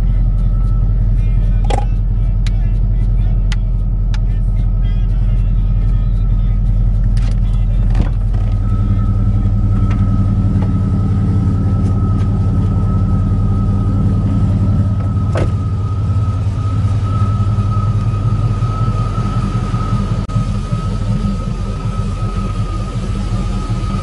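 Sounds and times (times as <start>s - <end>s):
high-pitched tone: 0.0s - 24.0s
vehicle engine rumbling: 0.0s - 24.0s.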